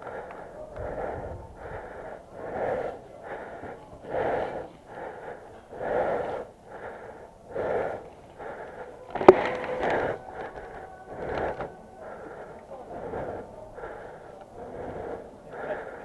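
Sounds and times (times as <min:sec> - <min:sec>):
person breathing heavily: 0:00.0 - 0:16.0.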